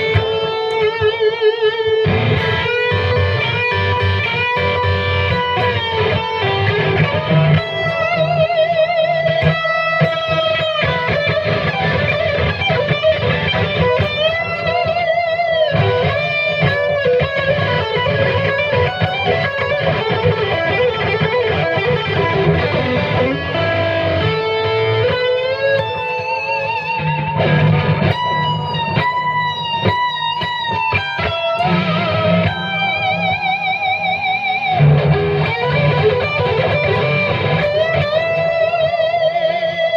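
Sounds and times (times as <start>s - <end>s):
electric guitar with vibrato: 0.0s - 39.9s.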